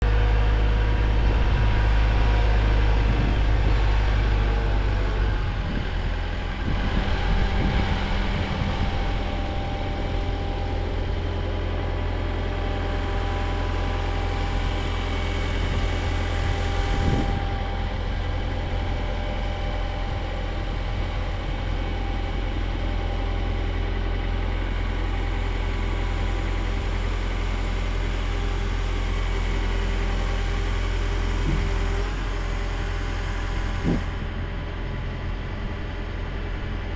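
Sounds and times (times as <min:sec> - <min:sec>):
engine running at low revs: 0:00.0 - 0:36.9.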